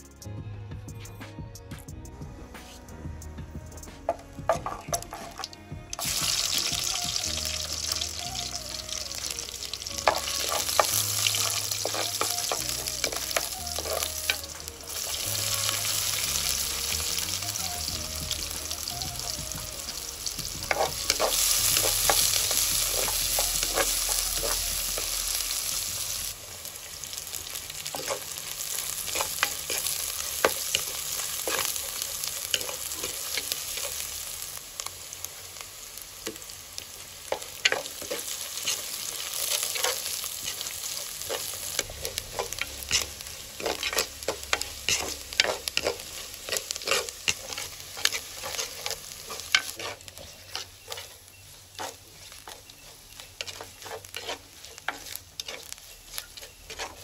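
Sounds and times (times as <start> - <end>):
food sizzling in hot oil: 3.7 - 57.0.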